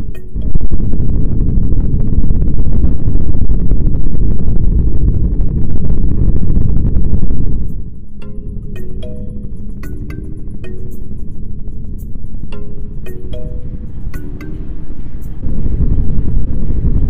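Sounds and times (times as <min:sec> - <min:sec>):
loud low rumbling: 0:00.0 - 0:17.0.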